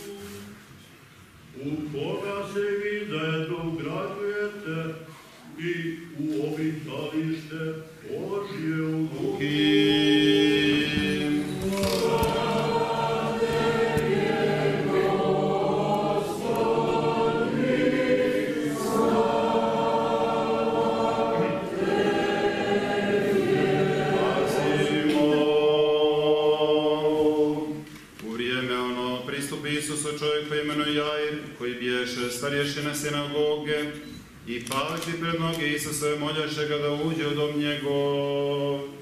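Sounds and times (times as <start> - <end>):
church choir singing a hymn: 5.6 - 33.8, 35.3 - 39.0.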